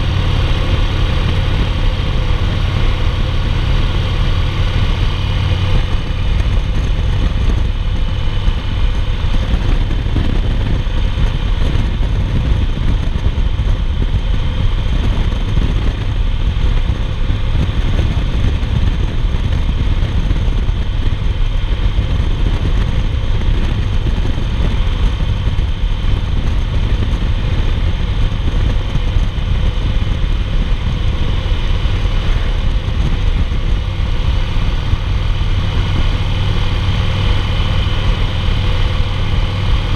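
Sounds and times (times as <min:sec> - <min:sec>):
motorcycle engine cruising: 0:00.0 - 0:39.9
wind rushing: 0:00.0 - 0:39.9.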